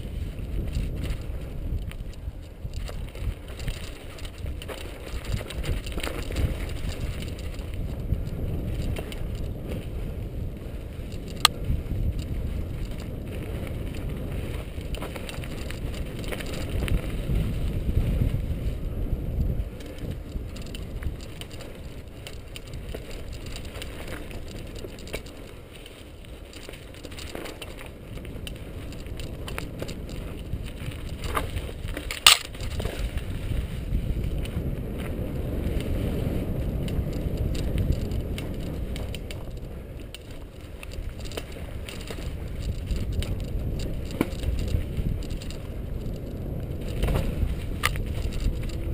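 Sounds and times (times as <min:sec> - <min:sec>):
bike rattling and clicking: 0:00.0 - 0:48.9
bike tyres rumbling on dirt: 0:00.0 - 0:48.9.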